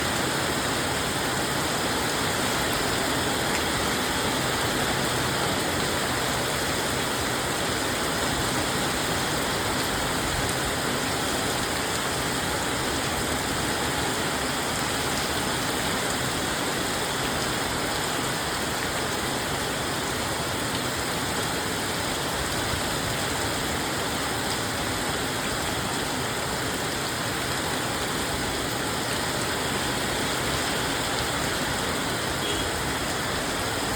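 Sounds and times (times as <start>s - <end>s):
rush of falling water: 0.0s - 33.9s.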